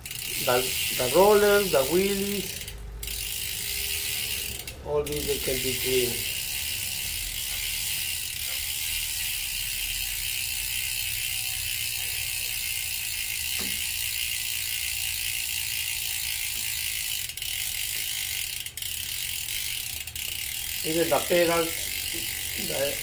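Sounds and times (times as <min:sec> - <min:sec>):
bicycle freehub ratcheting buzz: 0:00.0 - 0:23.0.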